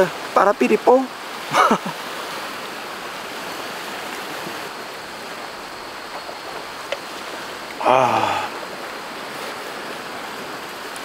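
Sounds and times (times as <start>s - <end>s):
sea surf washing: 0.0s - 11.0s.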